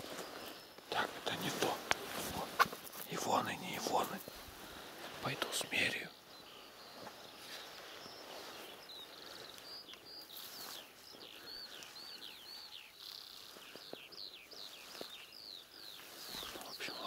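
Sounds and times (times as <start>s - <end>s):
footsteps rustling through dry grass: 0.0s - 17.0s
songbird chirping: 0.0s - 17.0s.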